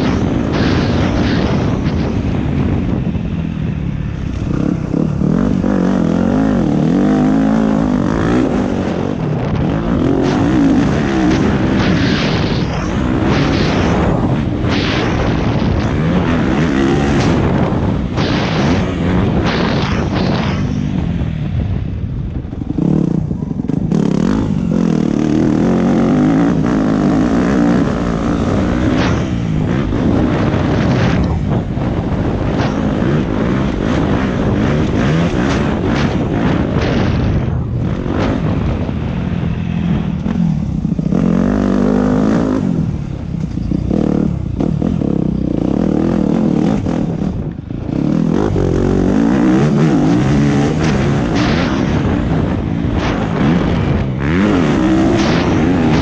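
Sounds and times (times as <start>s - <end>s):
dirt bike engine revving: 0.0s - 21.5s, 22.5s - 56.0s.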